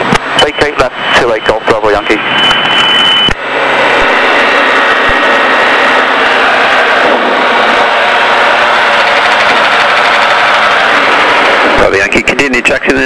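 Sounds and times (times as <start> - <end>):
aircraft cabin engine rushing: 0.0 - 13.0
faint steady whine: 0.0 - 13.0.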